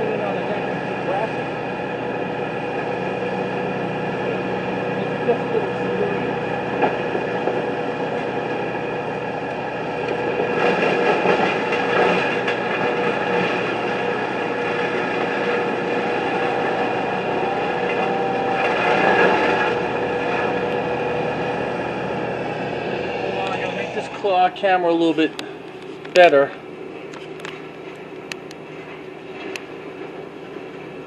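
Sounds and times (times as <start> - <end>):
heavy machine engine droning: 0.0 - 31.0.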